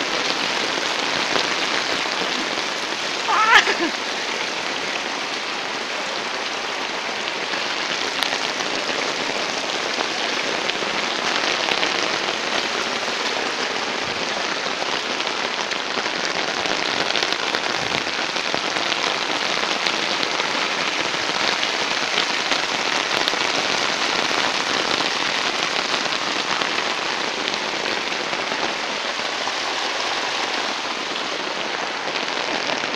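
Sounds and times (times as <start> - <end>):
runoff water rushing and splashing: 0.0 - 32.9.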